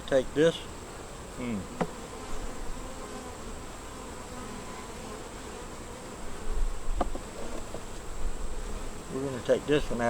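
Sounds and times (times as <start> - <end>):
bees buzzing: 0.1 - 10.0.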